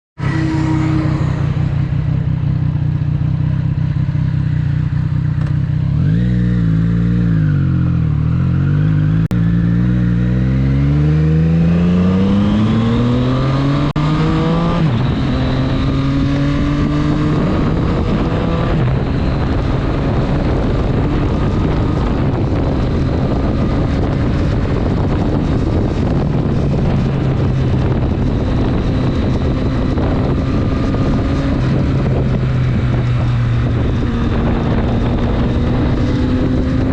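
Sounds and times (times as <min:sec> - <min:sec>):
motorcycle engine revving: 0:00.2 - 0:36.9
wind and road noise: 0:00.2 - 0:36.9.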